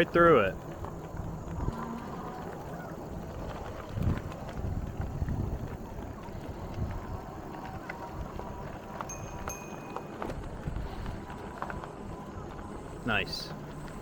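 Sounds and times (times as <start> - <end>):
bicycle rolling and rattling: 0.0 - 14.0
wind rumble on microphone: 0.0 - 14.0.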